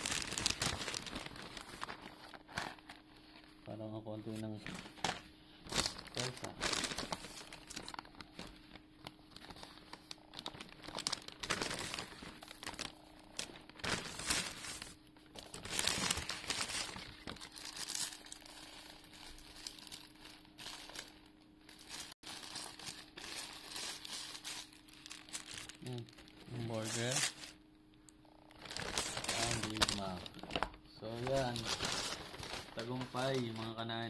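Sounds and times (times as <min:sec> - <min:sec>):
paper bag crinkling and rustling: 0:00.0 - 0:27.6, 0:28.5 - 0:34.0
faint steady hum: 0:00.0 - 0:34.0.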